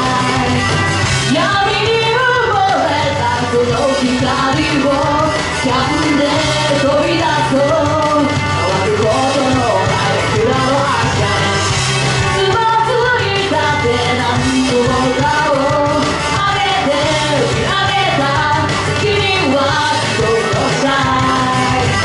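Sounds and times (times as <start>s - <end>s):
backing music with bass line: 0.0s - 22.0s
woman singing into microphone: 0.0s - 22.0s.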